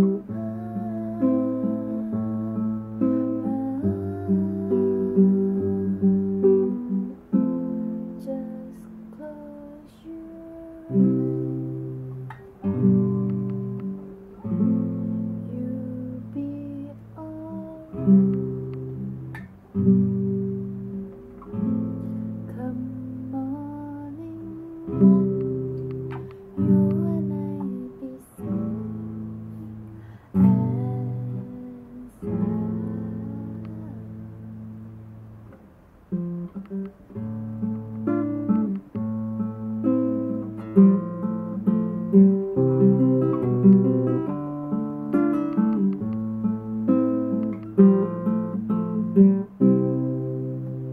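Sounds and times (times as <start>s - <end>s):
classical guitar chords strummed: 0.0s - 50.9s.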